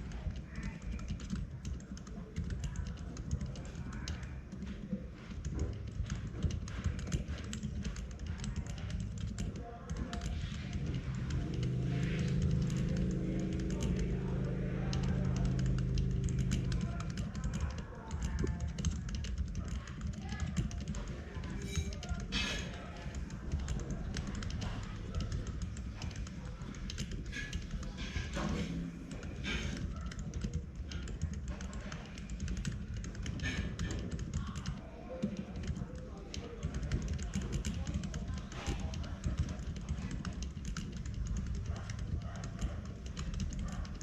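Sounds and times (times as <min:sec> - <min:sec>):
low steady hum: 0:00.0 - 0:44.0
mechanical keyboard typing: 0:00.0 - 0:44.0.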